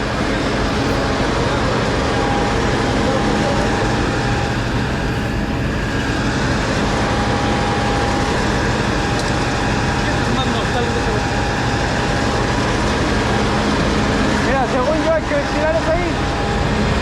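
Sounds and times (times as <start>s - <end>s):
fire engine motor and pump droning: 0.0s - 17.0s.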